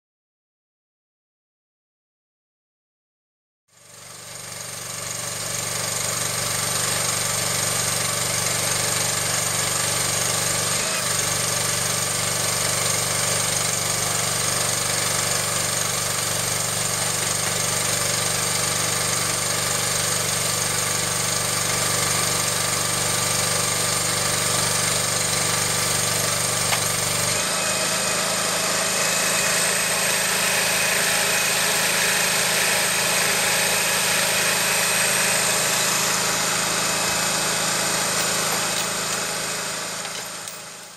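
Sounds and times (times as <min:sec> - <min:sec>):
small engine running: 0:03.7 - 0:40.9.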